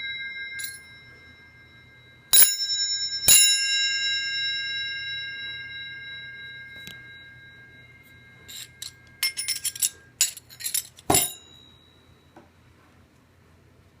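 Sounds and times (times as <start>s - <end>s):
hole saw ringing chime: 0.0s - 12.4s
metallic clinks and rings: 0.0s - 12.4s.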